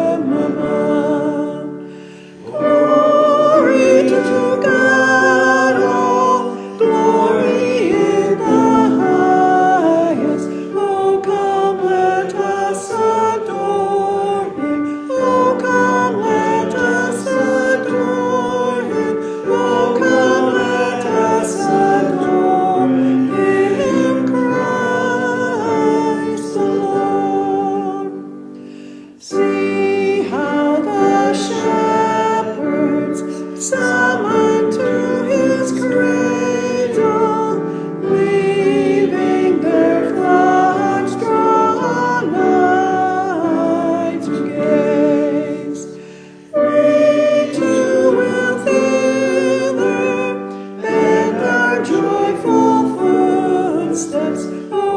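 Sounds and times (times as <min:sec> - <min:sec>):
choir singing a hymn: 0:00.0 - 0:54.9
piano accompaniment: 0:00.0 - 0:54.9.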